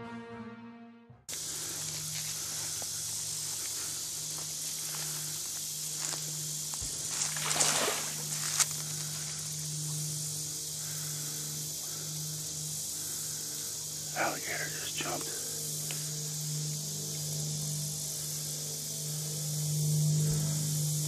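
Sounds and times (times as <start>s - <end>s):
high-pitched swamp hiss: 1.3s - 21.0s
low steady hum: 1.3s - 21.0s.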